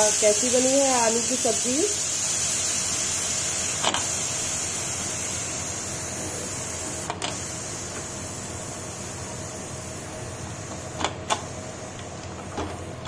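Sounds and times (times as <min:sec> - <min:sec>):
pressure cooker steam hissing: 0:00.0 - 0:13.0.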